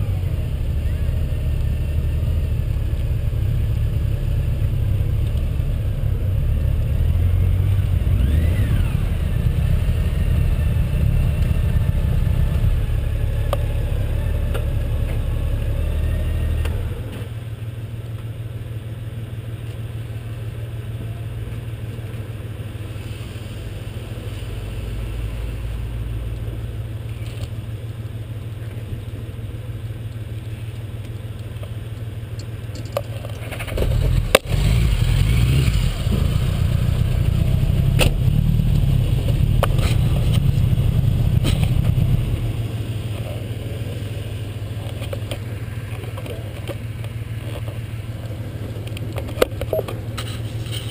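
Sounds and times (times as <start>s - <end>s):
rough engine rumble with knocks: 0.0s - 50.9s.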